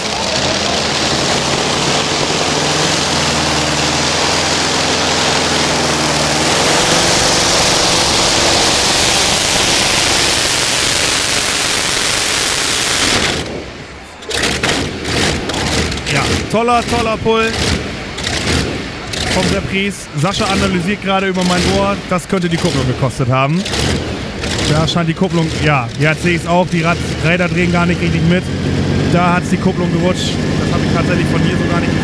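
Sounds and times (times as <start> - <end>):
radial aircraft engine running loud: 0.0 - 32.0.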